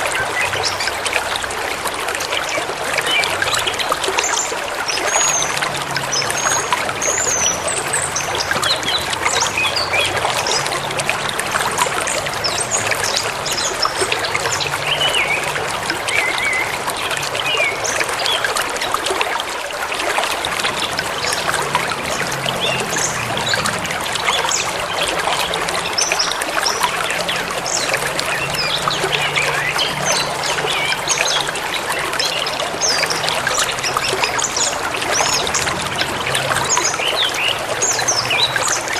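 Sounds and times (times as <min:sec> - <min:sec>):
river babbling over stones: 0:00.0 - 0:38.9.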